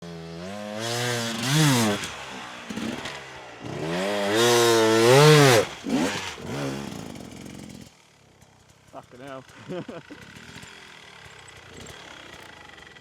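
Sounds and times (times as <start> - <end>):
dirt bike engine revving: 0.0 - 8.0, 9.0 - 13.0.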